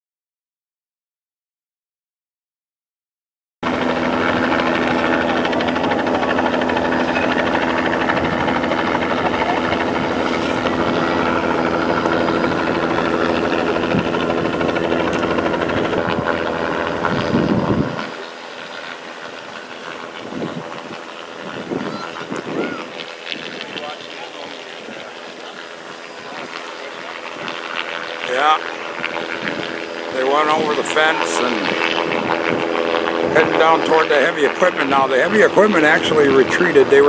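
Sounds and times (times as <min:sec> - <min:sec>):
helicopter engine and rotor drone: 0:03.6 - 0:37.0.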